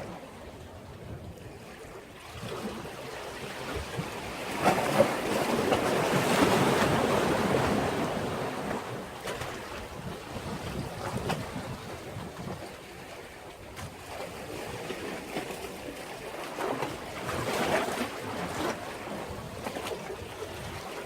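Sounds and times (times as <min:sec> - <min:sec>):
wave washing against breakwater: 0:00.0 - 0:21.0.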